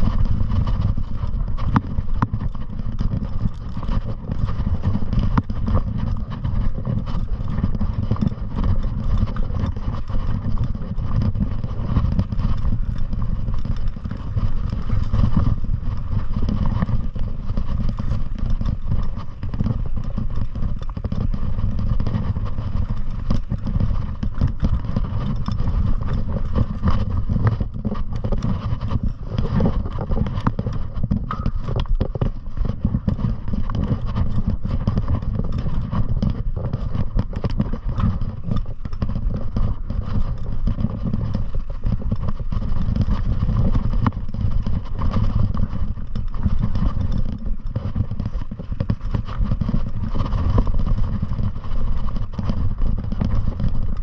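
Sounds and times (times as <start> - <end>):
wheels rattling over rocky ground: 0.0 - 54.0
wind rumble on microphone: 0.0 - 54.0.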